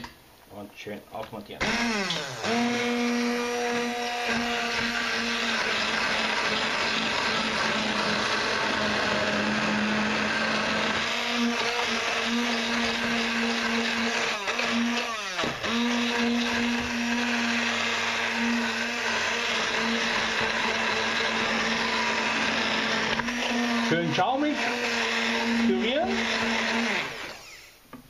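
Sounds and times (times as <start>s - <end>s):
immersion blender motor humming: 1.6s - 27.8s.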